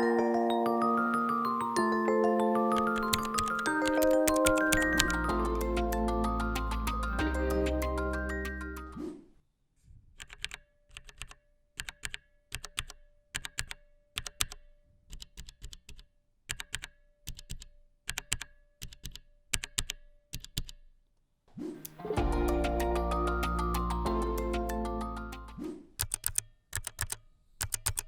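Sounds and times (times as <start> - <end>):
mechanical keyboard typing: 2.4 - 9.0, 10.2 - 20.8, 21.9 - 28.0.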